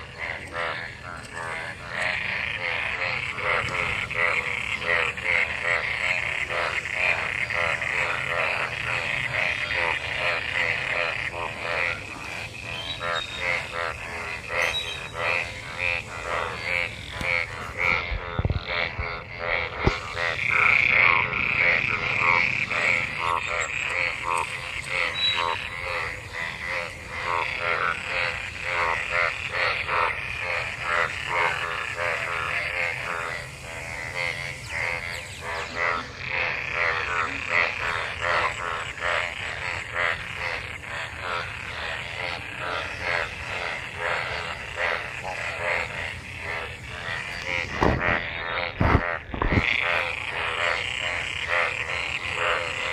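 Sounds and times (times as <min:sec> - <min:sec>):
chorus of frogs croaking: 0:00.0 - 0:52.9.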